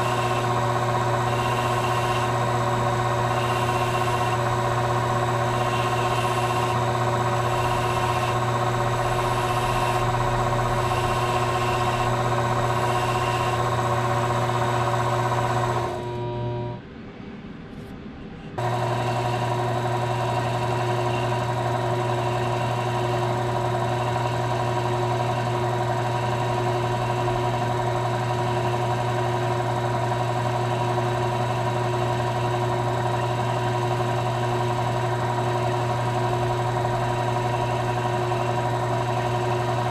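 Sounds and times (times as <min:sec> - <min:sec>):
lathe motor whine: 0:00.0 - 0:16.8, 0:18.4 - 0:39.9.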